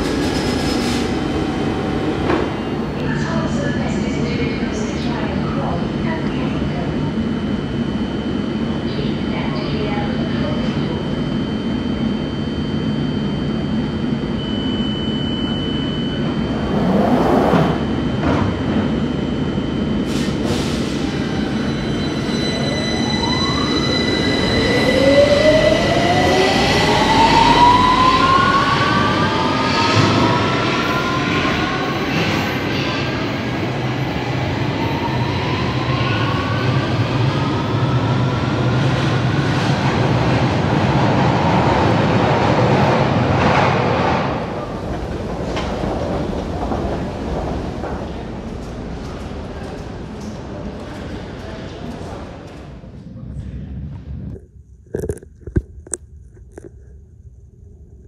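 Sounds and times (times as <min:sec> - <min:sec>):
train wheels rumbling in tunnel: 0:00.0 - 0:58.0.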